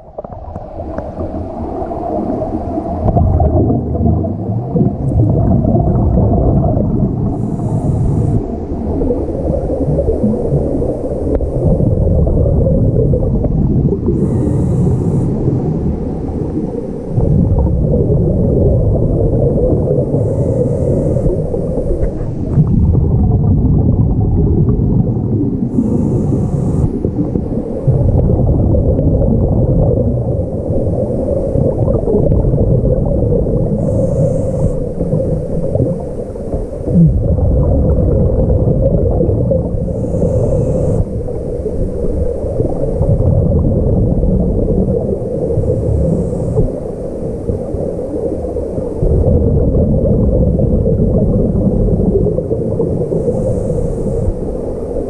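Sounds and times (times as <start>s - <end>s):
muffled underwater rumble: 0.0s - 55.0s
scuba regulator bubbling hiss: 0.7s - 55.0s.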